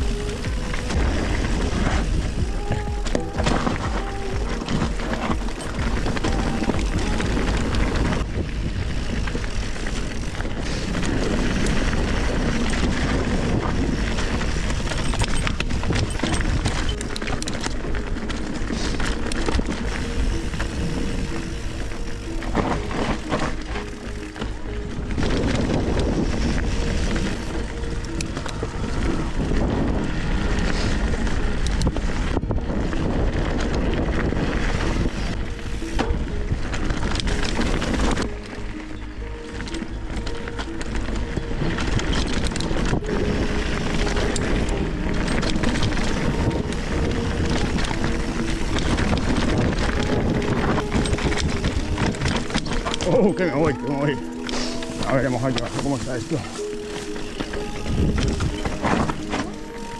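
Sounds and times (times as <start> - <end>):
bicycle tyre noise: 0.0 - 59.9
bike rattles and knocks: 0.0 - 59.9
wind rumble on microphone: 0.0 - 59.9.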